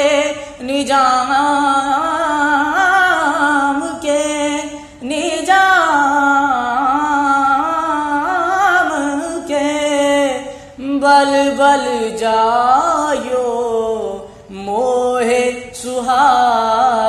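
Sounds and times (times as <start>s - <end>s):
young man singing: 0.0s - 17.0s.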